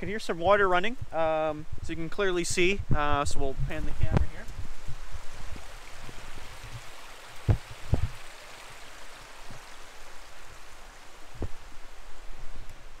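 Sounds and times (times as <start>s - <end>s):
water rushing: 1.1s - 13.0s.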